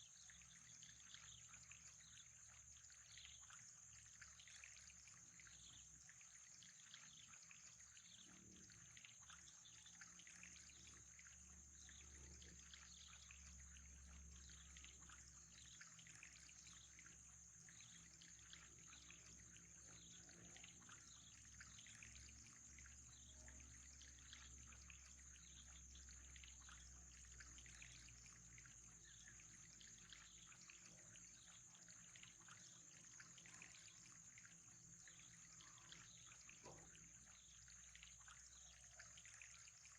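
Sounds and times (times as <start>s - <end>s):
constant high hiss: 0.0s - 39.9s
water trickling: 0.0s - 39.9s.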